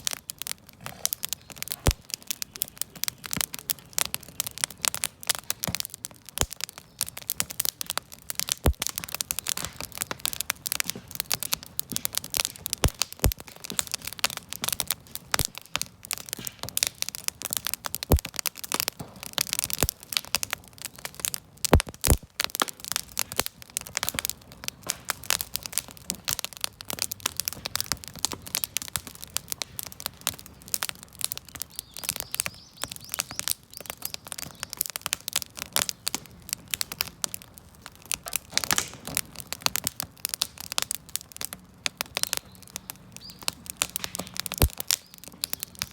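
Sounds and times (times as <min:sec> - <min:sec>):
bonfire crackling: 0:00.0 - 0:45.9.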